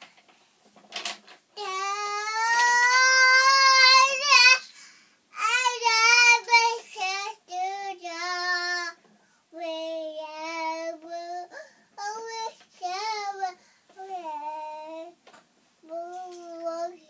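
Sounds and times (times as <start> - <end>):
boy singing wordlessly: 1.6 - 4.7, 5.3 - 15.2, 15.8 - 17.0.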